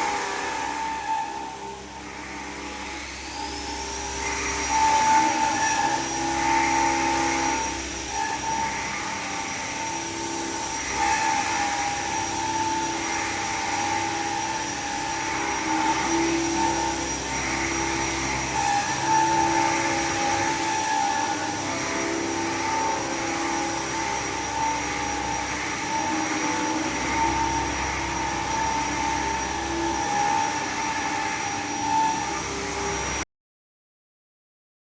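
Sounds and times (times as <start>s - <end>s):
machine hum: 0.0s - 33.2s
spindle whine: 0.0s - 33.2s.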